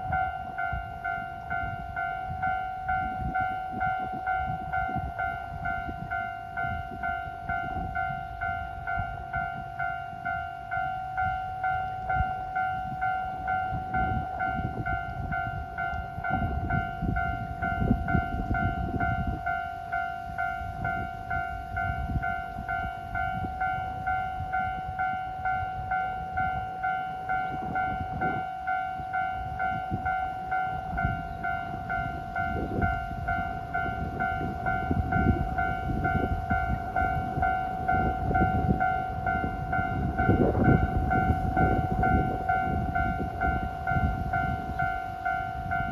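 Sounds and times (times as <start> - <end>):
diesel locomotive rumble: 0.0 - 45.9.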